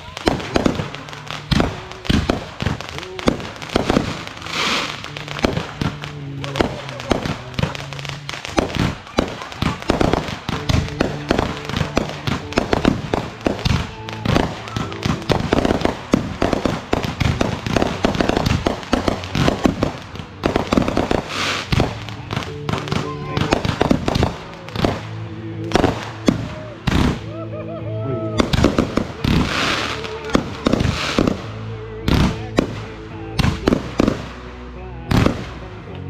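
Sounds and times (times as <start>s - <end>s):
fireworks bangs and pops: 0.0s - 27.3s, 28.4s - 34.5s, 35.1s - 35.6s
fireworks hissing crackle: 0.0s - 27.4s, 28.4s - 35.6s.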